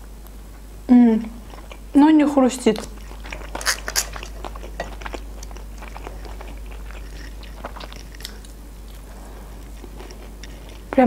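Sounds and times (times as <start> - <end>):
close chewing and mouth clicks: 1.4 - 1.9, 2.6 - 11.0.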